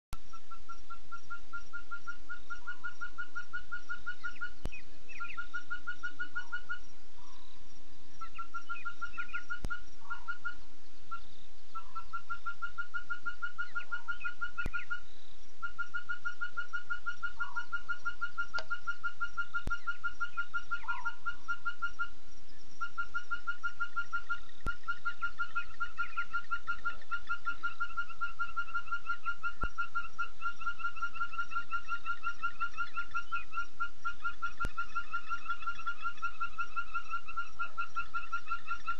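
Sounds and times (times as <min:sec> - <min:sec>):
faint steady hum: 0:00.1 - 0:38.9
short scattered animal calls: 0:00.2 - 0:38.9.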